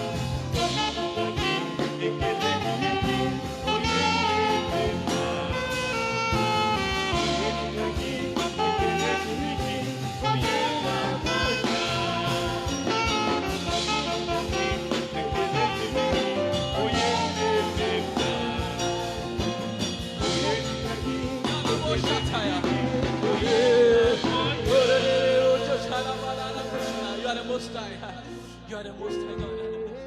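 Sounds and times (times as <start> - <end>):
saxophone melody: 0.0 - 27.6
backing track with bass and drums: 0.0 - 28.3.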